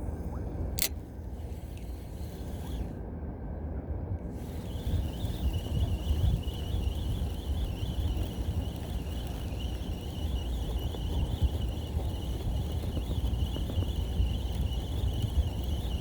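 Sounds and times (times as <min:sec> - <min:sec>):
fishing reel knocking rumble: 0:00.8 - 0:02.8, 0:04.4 - 0:16.0.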